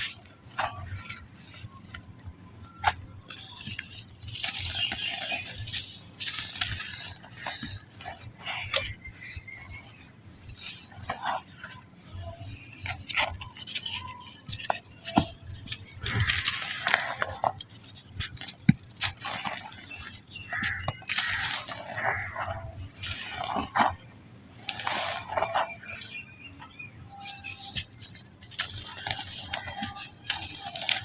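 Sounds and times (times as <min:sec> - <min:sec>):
sand crumbling with crackles: 0:00.0 - 0:31.0.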